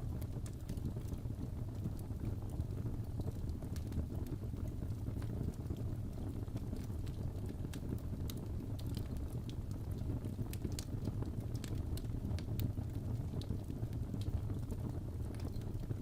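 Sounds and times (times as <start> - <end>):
fire crackling and popping: 0.0 - 16.0
fire low rumble: 0.0 - 16.0.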